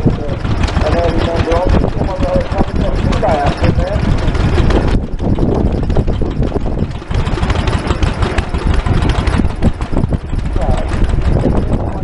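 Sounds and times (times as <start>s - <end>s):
stationary engine running: 0.0s - 12.0s.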